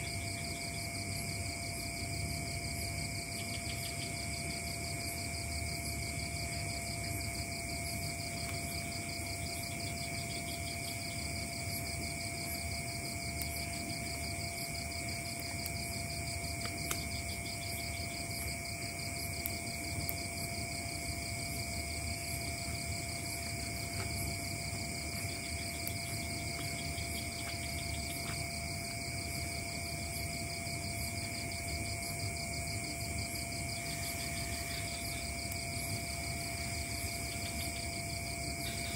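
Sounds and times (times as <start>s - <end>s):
insect fast pulsing: 0.0s - 38.9s
insects trilling: 0.0s - 38.9s.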